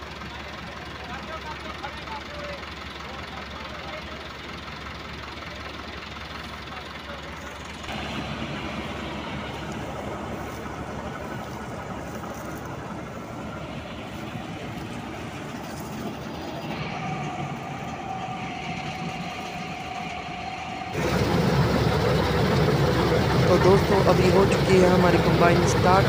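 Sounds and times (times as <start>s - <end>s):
combine harvester rattling and humming: 0.0s - 26.0s
steady mechanical whine: 0.0s - 26.0s.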